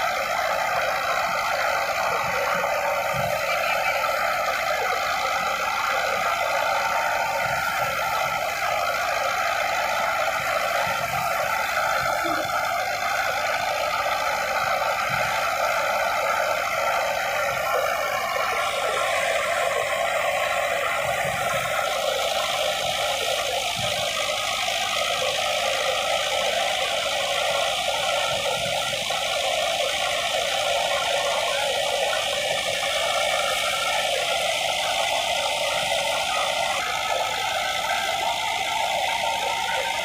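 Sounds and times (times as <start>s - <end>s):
thresher running: 0.0s - 40.0s
tractor diesel engine: 0.0s - 40.0s.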